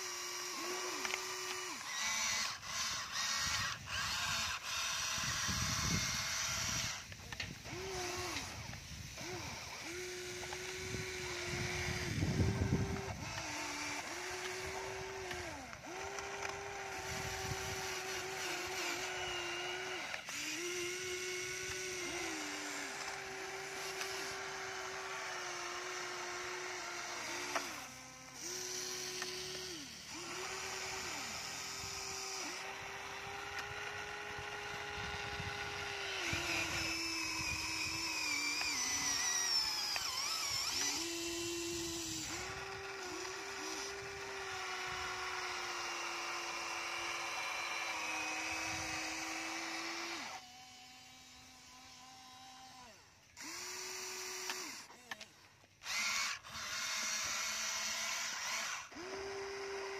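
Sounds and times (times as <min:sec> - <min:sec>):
toy excavator motors whining: 0:00.0 - 0:59.9.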